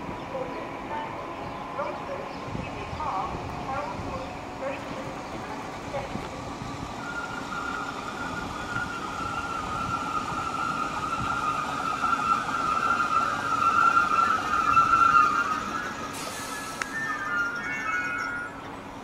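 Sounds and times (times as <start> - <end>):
train high whine: 0.0 - 19.0
train rumble: 0.0 - 19.0.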